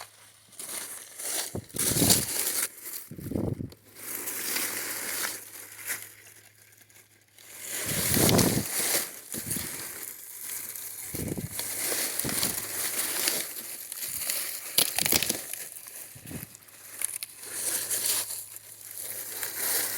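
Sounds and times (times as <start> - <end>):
dry vines and leaves crunching: 0.0 - 19.9.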